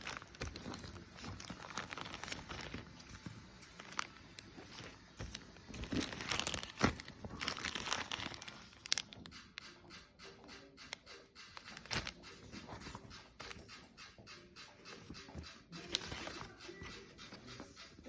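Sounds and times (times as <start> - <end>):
crinkling and rustling: 0.0 - 9.4, 10.4 - 18.0.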